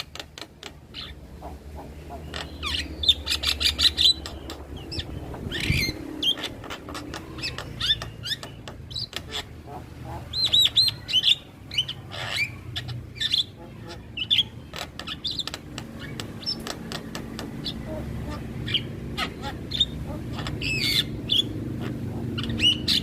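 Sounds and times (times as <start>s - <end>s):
starling singing: 0.0s - 23.0s.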